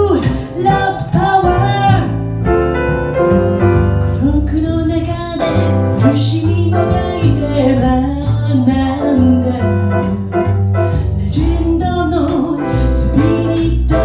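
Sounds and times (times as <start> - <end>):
woman singing: 0.0 - 2.6, 4.0 - 14.0
bass: 0.0 - 14.0
piano: 0.0 - 14.0.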